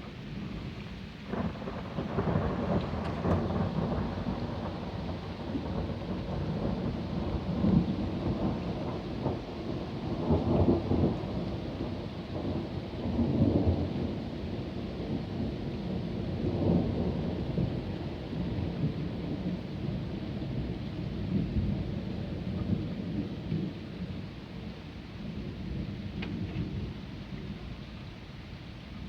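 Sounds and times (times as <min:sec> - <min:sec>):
thunder rumbling: 0:00.0 - 0:27.6
rain hiss: 0:00.0 - 0:29.0.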